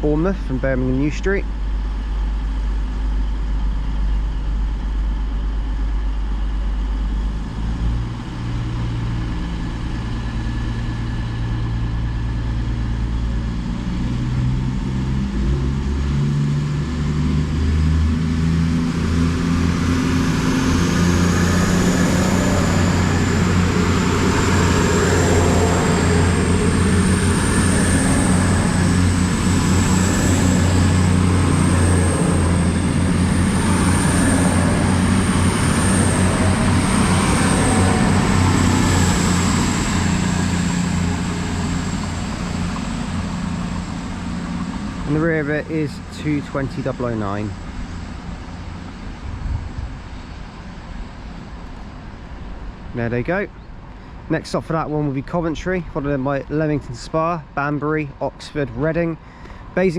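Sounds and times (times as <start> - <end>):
high whine rising in pitch: 0.0 - 53.6
diesel train engines pulling away: 0.0 - 59.9.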